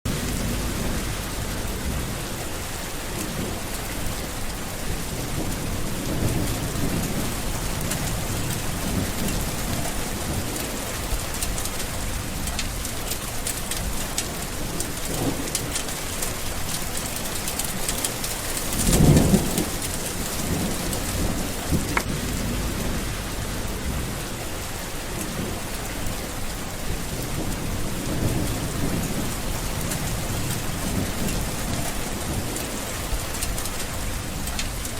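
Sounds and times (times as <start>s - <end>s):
heavy rain falling: 0.1s - 34.9s
thunder rolling: 0.1s - 34.9s.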